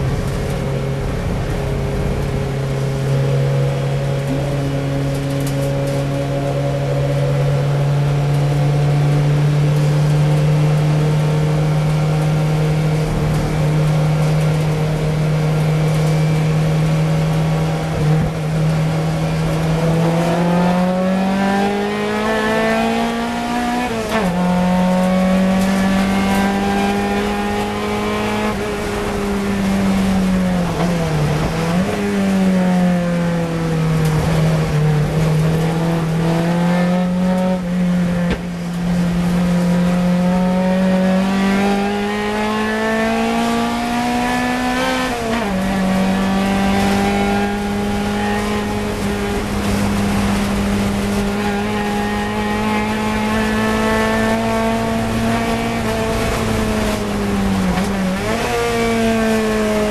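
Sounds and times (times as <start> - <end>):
race car engine at high revs: 0.0 - 59.9
wind noise: 0.0 - 59.9.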